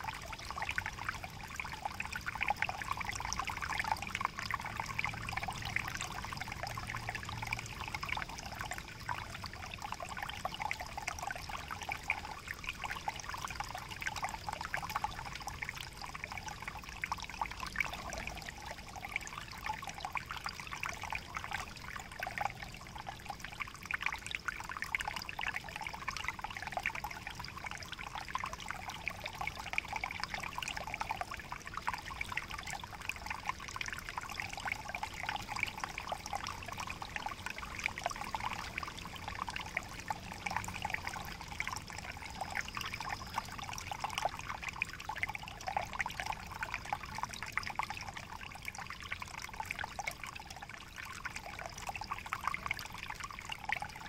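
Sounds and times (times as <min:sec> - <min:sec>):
creek trickling over rocks: 0:00.0 - 0:54.0.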